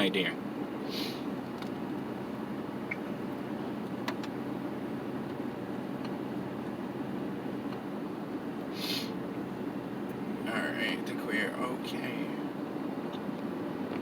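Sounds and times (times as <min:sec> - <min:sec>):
engine and road noise: 0:00.0 - 0:14.0.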